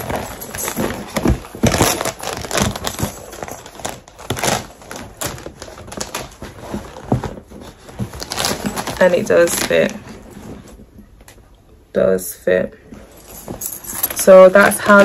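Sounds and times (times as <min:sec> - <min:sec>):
leather bag rustling: 0:00.0 - 0:10.9, 0:13.0 - 0:15.0.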